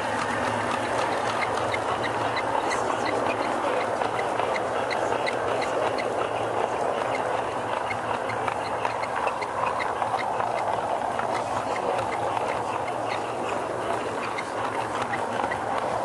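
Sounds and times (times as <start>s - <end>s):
light repeating clicks: 0.0s - 16.0s
model train rolling rumble: 0.0s - 16.0s.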